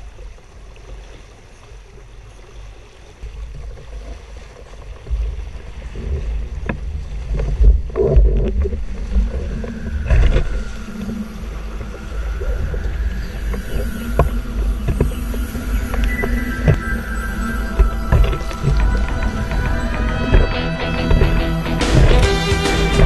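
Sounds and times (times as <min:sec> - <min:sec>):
hulls slapping waves: 0:00.0 - 0:23.0
water rushing along hulls: 0:00.0 - 0:23.0
wind buffeting microphone: 0:03.2 - 0:23.0.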